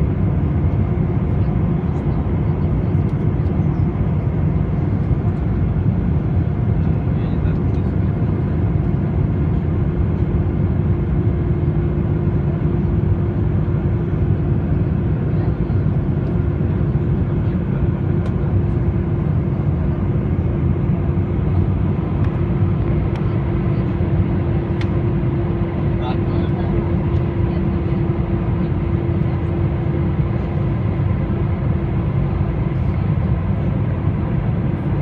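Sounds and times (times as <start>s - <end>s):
airliner cabin engine drone: 0.0s - 35.0s.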